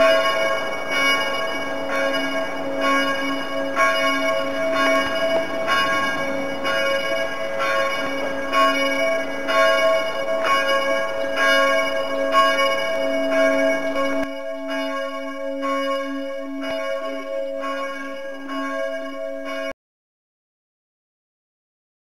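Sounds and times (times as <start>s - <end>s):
church bells ringing: 0.0s - 19.8s.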